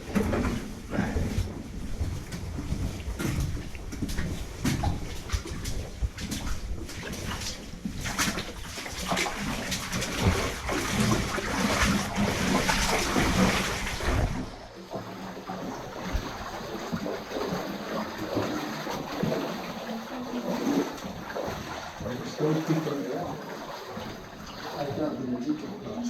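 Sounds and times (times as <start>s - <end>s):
footsteps splashing through water: 0.0s - 25.3s
water sloshing and trickling: 0.0s - 26.0s.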